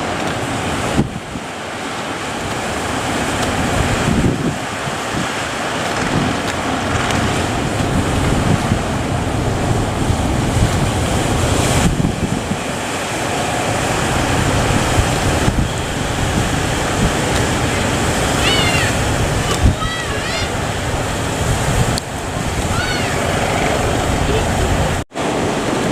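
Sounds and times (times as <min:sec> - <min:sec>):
heavy surf breaking: 0:00.0 - 0:25.9
wind buffeting microphone: 0:00.0 - 0:25.9.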